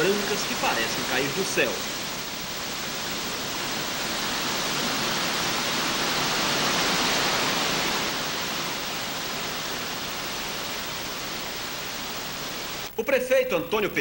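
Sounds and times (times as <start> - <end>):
waterfall rushing into pool: 0.0 - 12.9.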